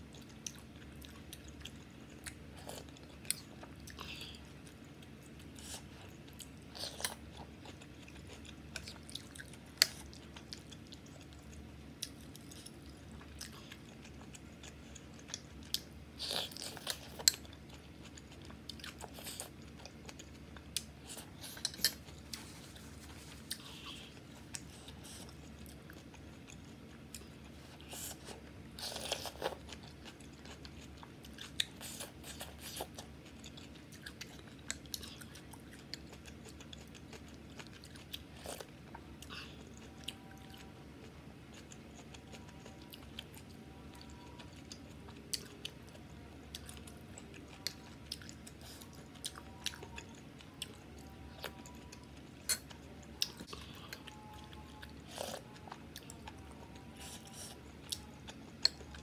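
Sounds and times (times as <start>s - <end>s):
person chewing: 0.1s - 59.0s.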